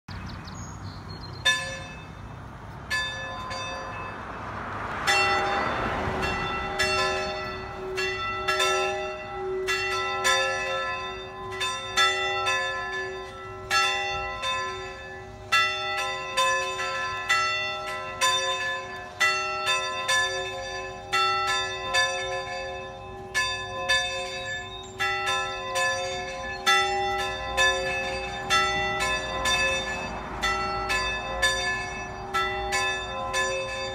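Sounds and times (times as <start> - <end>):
church bells ringing: 1.4 - 33.9.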